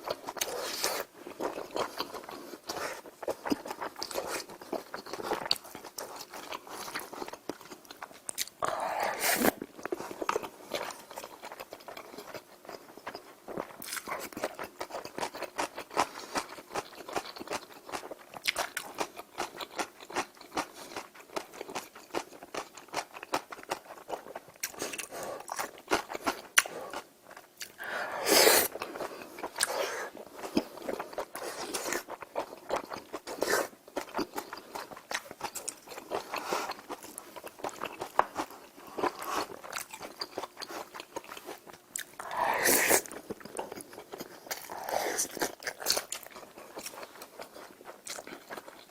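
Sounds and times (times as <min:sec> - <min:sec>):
person chewing: 0:00.0 - 0:48.9.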